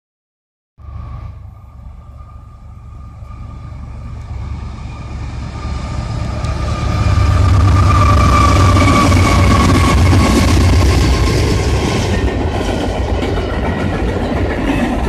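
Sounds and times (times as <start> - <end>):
steady high whine: 0.8 - 13.5
diesel locomotive engine rumble: 0.8 - 15.0.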